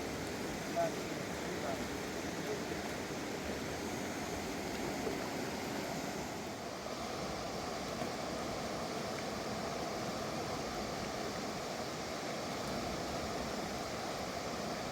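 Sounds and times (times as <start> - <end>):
river rushing over rocks: 0.0 - 14.9.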